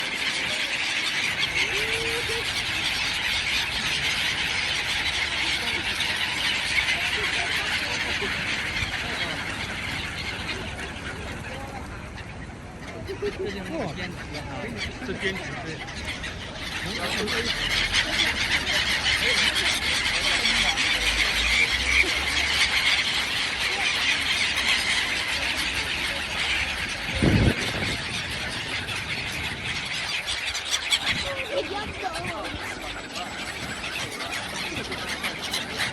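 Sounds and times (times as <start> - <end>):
flock of birds calling: 0.0 - 35.9.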